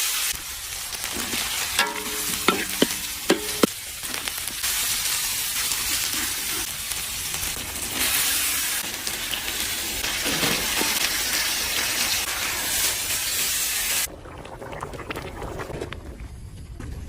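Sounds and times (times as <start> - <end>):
food sizzling in hot oil: 0.0 - 14.1.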